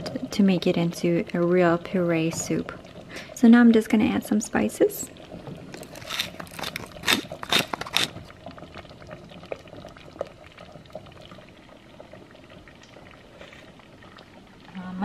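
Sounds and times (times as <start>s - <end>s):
soup simmering pops: 0.0s - 14.9s.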